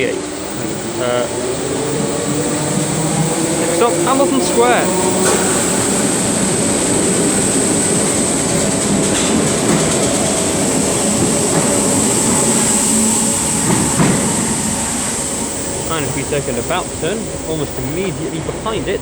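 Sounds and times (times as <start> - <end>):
electric train pulling away: 0.0 - 19.0
high steady whine: 0.0 - 19.0
wheels clattering over rails: 0.0 - 19.0.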